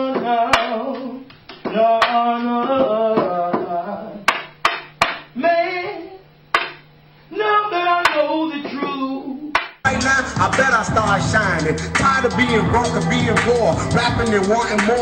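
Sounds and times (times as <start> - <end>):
person singing unaccompanied: 0.0 - 4.3, 5.3 - 6.2, 7.3 - 15.0.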